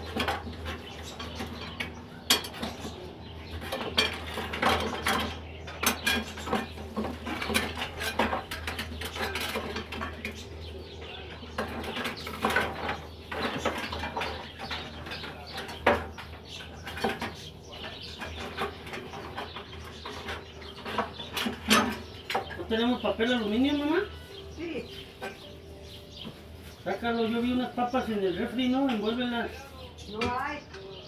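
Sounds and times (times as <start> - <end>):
dishes and utensils clinking: 0.0 - 29.3.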